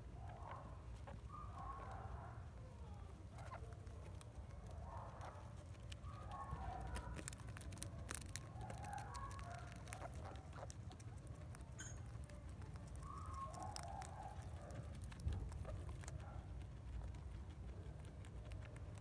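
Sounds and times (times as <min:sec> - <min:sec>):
guinea pig clucking: 0:00.0 - 0:19.0.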